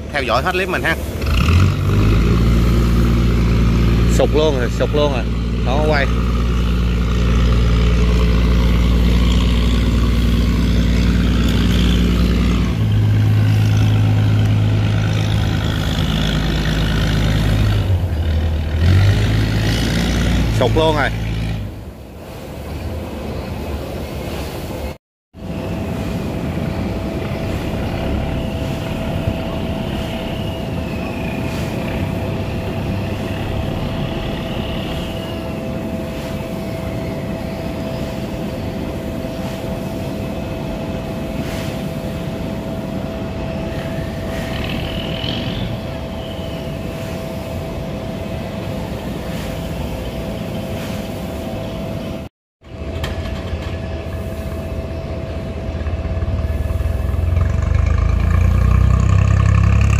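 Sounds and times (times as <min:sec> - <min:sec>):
constant whine: 0:00.0 - 0:59.9
diesel engines and machinery drone: 0:00.0 - 0:59.9.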